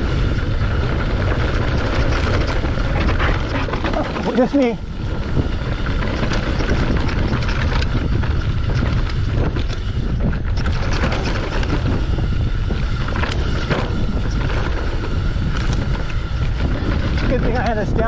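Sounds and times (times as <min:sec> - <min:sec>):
bike tyres rumbling: 0:00.0 - 0:18.0
wind buffeting microphone: 0:00.0 - 0:18.0.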